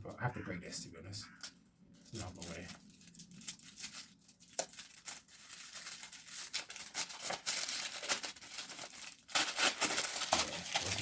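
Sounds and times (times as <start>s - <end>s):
packaging tearing and crumpling: 2.1s - 11.0s.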